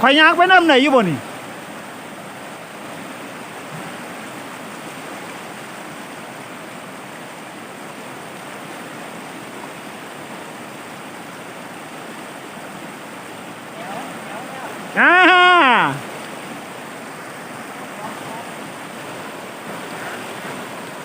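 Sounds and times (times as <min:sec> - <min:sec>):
stream rapids rushing over rocks: 0:00.0 - 0:21.0.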